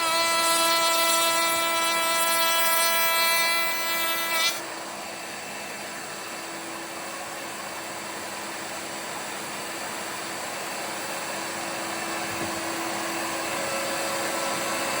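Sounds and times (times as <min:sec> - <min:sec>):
electric motor running with airy rush: 0:00.0 - 0:15.0.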